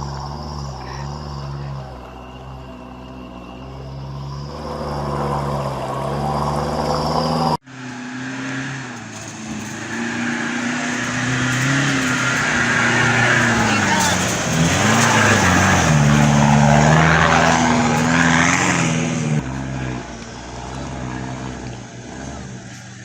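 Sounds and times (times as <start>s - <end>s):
truck engines revving hard: 0.0s - 23.0s
tyres spinning in mud: 0.0s - 23.0s.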